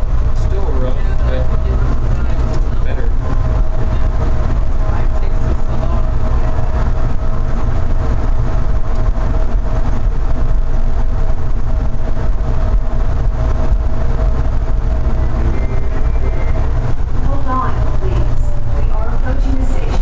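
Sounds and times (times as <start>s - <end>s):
constant whine: 0.0s - 20.0s
train low rumble: 0.0s - 20.0s.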